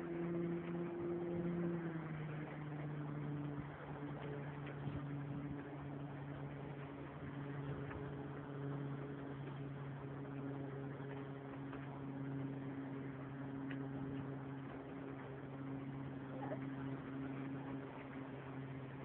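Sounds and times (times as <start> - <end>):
boat engine humming: 0.0 - 19.0
water rushing: 0.0 - 19.0
wind: 0.0 - 19.0.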